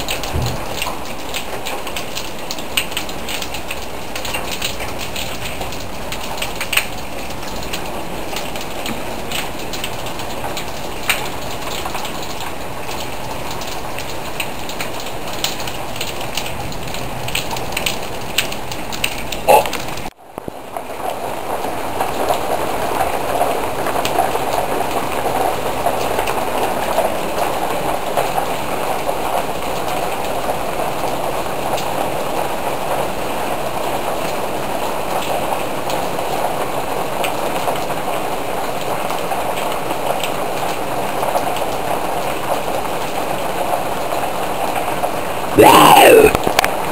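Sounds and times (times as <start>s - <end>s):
water drips and ticks: 0.0s - 45.3s
steady rain: 0.0s - 46.9s.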